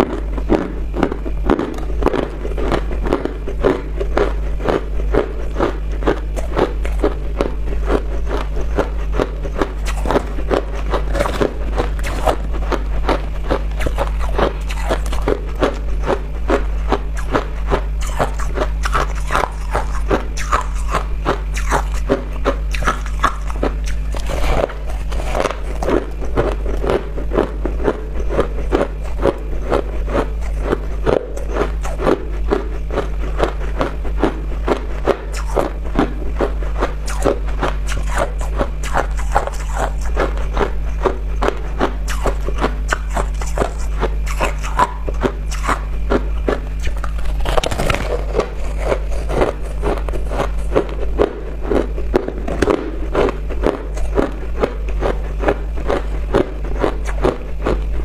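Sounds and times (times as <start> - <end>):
chewing crushed ice: 0.0 - 58.0
steady low hum: 0.0 - 58.0.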